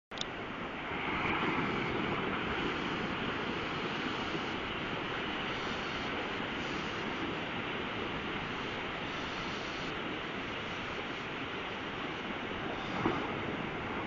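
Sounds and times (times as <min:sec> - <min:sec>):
surf rushing: 0:00.3 - 0:14.0
wind on microphone: 0:00.4 - 0:14.0.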